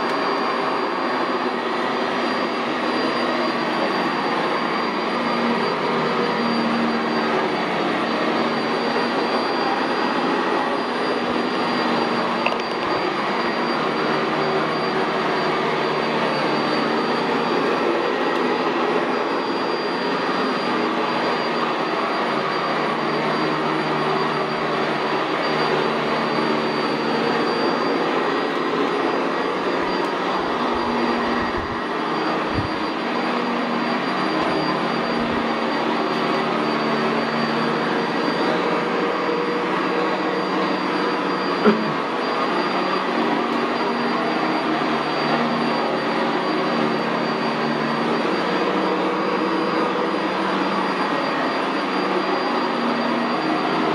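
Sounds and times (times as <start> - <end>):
vacuum cleaner motor whining: 0.0 - 53.9.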